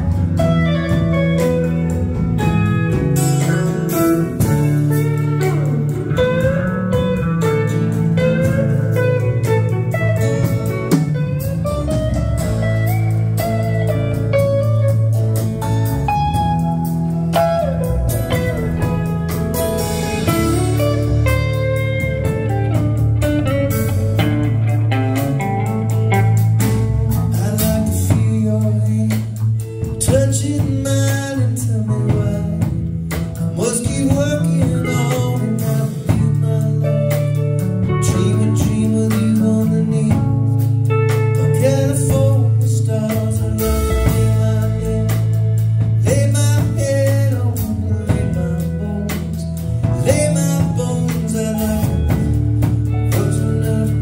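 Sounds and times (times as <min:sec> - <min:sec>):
drum kit: 0:00.0 - 0:54.0
electric and acoustic guitars: 0:00.0 - 0:54.0
electric bass: 0:00.0 - 0:54.0.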